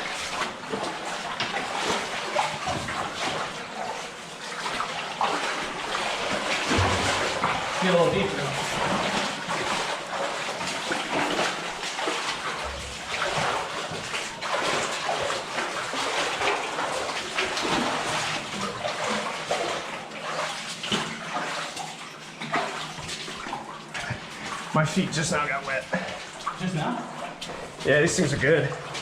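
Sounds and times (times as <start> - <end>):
feet wading through water: 0.0 - 29.0
rushing water: 0.0 - 29.0.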